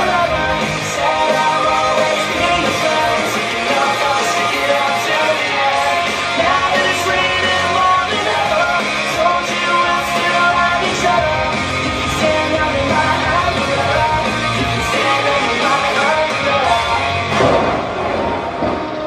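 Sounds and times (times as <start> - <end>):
person singing: 0.0 - 17.7
rock music with guitar: 0.0 - 19.0.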